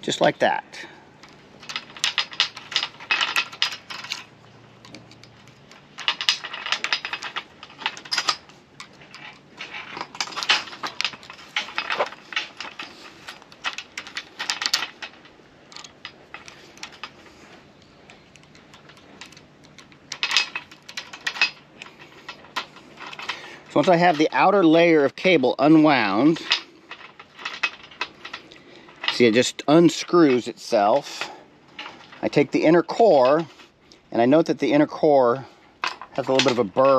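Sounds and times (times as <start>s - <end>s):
metal wire strands clicking: 1.2s - 34.1s.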